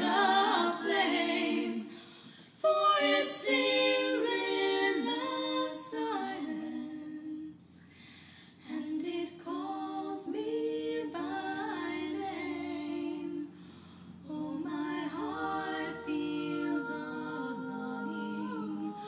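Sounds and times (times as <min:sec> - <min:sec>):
woman singing a cappella harmony: 0:00.0 - 0:19.0.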